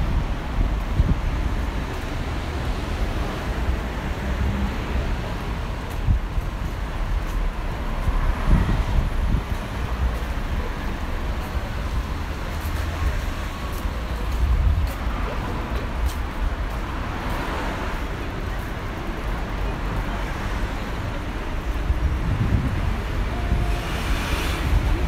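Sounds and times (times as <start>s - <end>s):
wind rumble on microphone: 0.0s - 20.1s, 21.0s - 25.0s
city street traffic: 0.0s - 25.0s.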